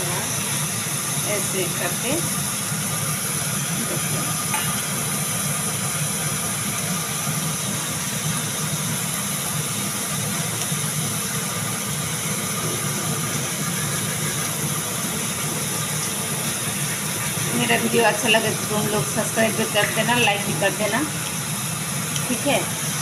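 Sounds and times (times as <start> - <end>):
small motor humming with hiss: 0.0 - 23.0.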